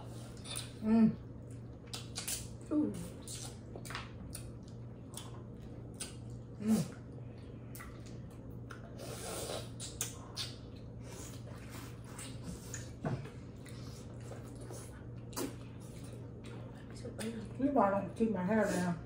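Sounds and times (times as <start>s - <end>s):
steady low hum: 0.0s - 19.0s
wet chewing and smacking: 0.2s - 17.6s.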